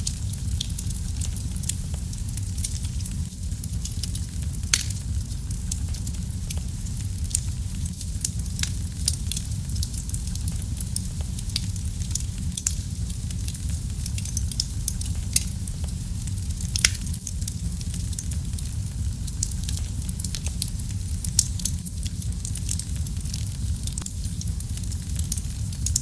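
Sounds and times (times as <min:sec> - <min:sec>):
fire crackling and popping: 0:00.0 - 0:26.0
low rumble of flame: 0:00.0 - 0:26.0.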